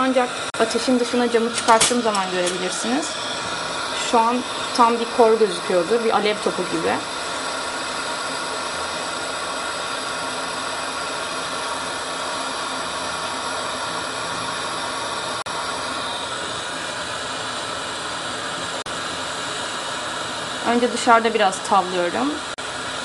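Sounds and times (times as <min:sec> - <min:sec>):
gas torch hissing: 0:00.0 - 0:23.0.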